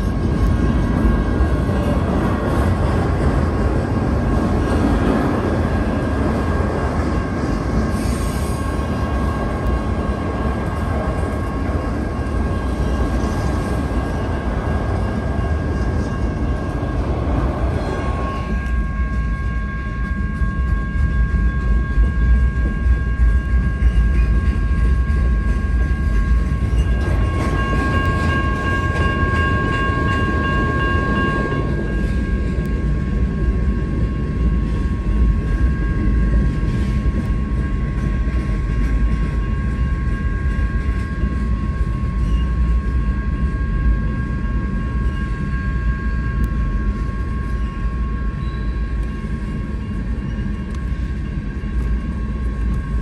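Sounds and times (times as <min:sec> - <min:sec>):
high ringing tone: 0:00.0 - 0:53.0
train wheels rumbling on rail: 0:00.0 - 0:53.0.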